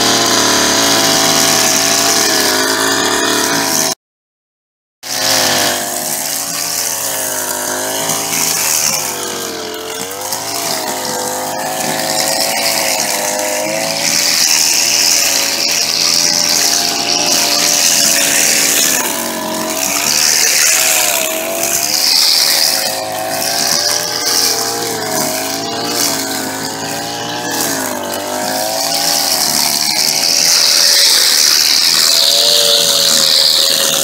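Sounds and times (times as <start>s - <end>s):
string trimmer engine: 0.0s - 4.0s, 5.0s - 34.0s
trimmer line hissing: 0.0s - 4.0s, 5.1s - 34.0s.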